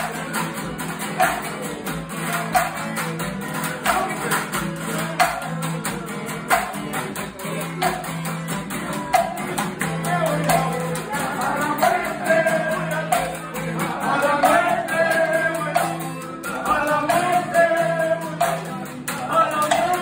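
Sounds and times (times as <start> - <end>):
person singing: 0.0 - 20.0
strummed acoustic guitar: 0.0 - 20.0.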